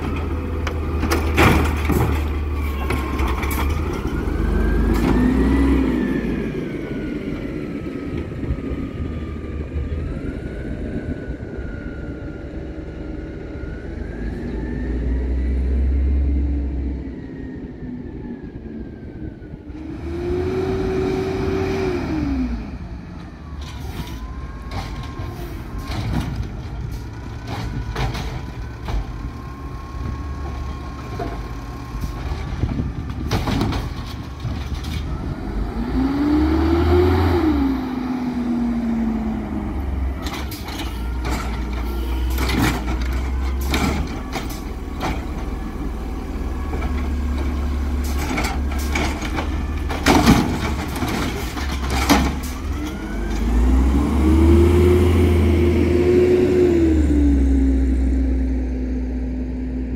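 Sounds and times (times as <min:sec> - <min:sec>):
garbage truck engine revving: 0:00.0 - 0:10.7, 0:19.8 - 0:59.9.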